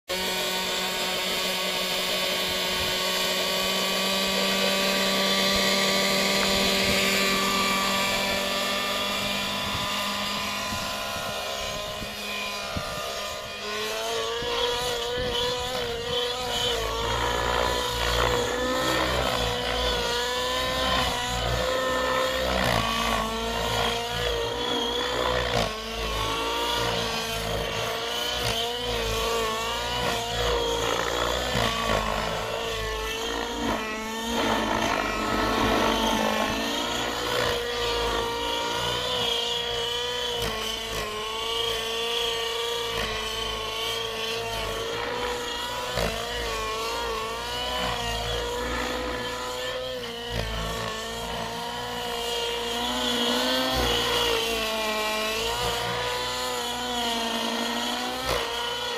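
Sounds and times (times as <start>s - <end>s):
model helicopter engine and rotor: 0.1s - 58.9s.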